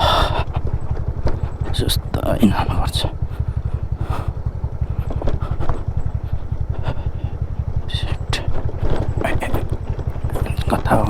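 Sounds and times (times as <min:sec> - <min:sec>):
scooter engine pulsing: 0:00.0 - 0:11.0
scooter knocking and rattling: 0:00.0 - 0:11.0.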